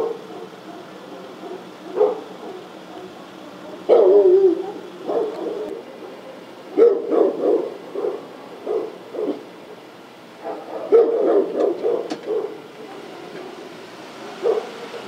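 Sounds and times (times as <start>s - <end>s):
dog barking: 0.0s - 5.8s, 6.7s - 9.5s, 10.4s - 12.7s, 13.3s - 15.0s.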